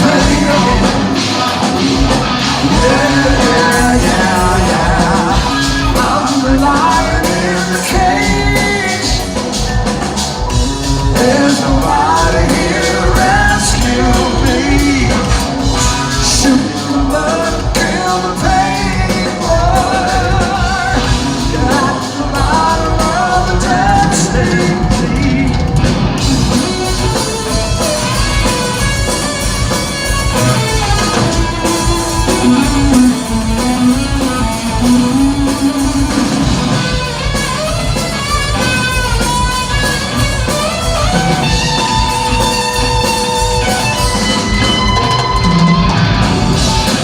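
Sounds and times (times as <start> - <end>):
person singing: 0.0 - 37.7
bass: 0.0 - 47.0
drum kit: 0.0 - 47.0
electric guitar: 0.0 - 47.0.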